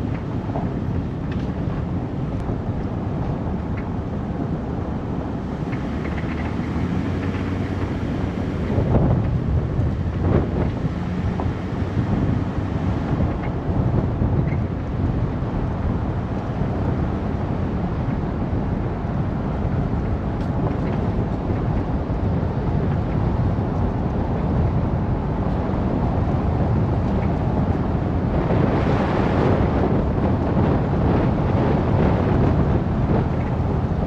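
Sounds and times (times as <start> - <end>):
tyres on dirt road: 0.0 - 34.0
wind buffeting microphone: 0.0 - 34.0.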